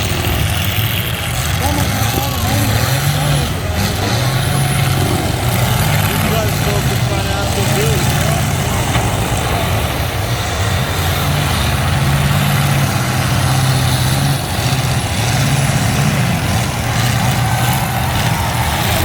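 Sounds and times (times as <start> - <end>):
truck engines droning: 0.0 - 19.0.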